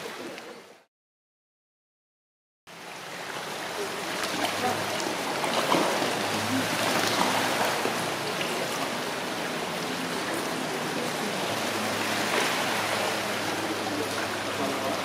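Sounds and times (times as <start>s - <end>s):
running water rushing: 0.0s - 0.9s, 2.7s - 15.0s.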